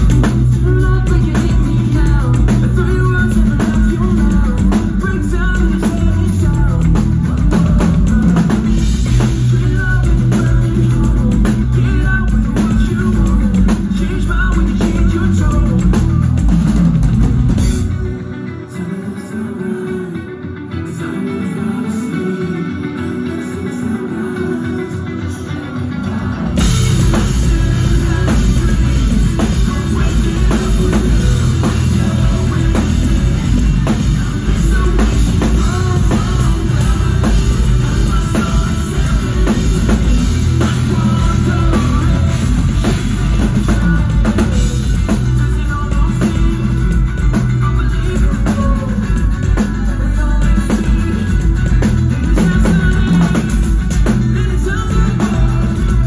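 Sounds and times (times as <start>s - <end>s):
drum kit: 0.0s - 18.4s, 23.0s - 56.0s
bass guitar: 0.0s - 56.0s
electric guitars: 0.0s - 56.0s.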